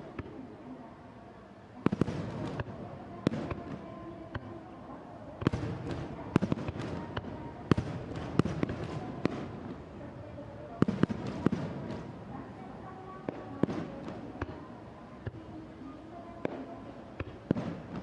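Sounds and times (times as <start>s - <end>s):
fireworks bursting: 1.8s - 18.0s.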